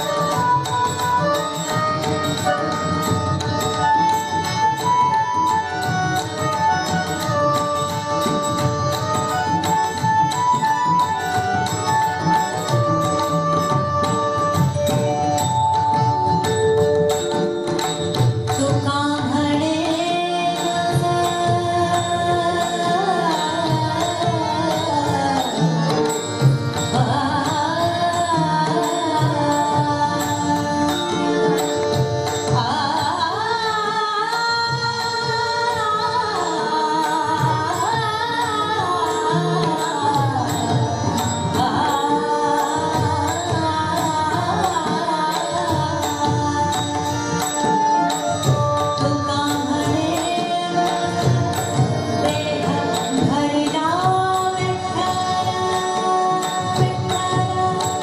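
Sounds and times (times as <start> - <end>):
hand drums playing: 0.0 - 33.4, 37.3 - 58.0
harmonium: 0.0 - 58.0.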